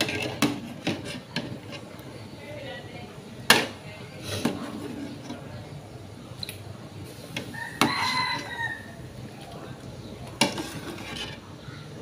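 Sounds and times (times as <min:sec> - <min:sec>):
boiling pot low noise: 0:00.0 - 0:12.0.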